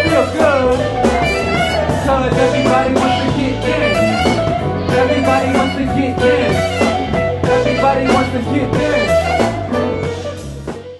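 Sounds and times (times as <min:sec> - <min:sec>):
band playing: 0:00.0 - 0:10.9
electric guitar: 0:00.0 - 0:10.9
saxophone: 0:00.0 - 0:10.9.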